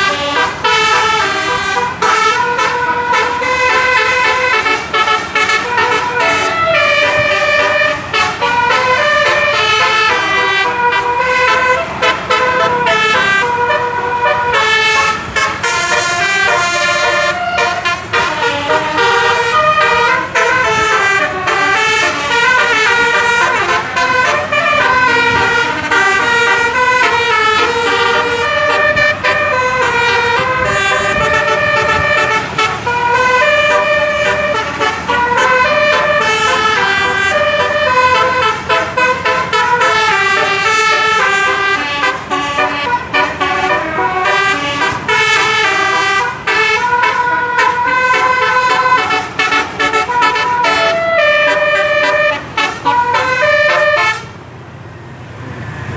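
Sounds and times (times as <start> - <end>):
musical bus air horn melodies: 0.0 - 54.4.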